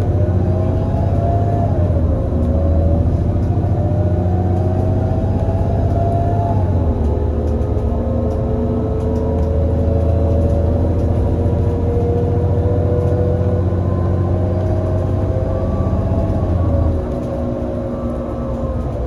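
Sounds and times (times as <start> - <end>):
bus engine pulling under load: 0.0 - 19.0.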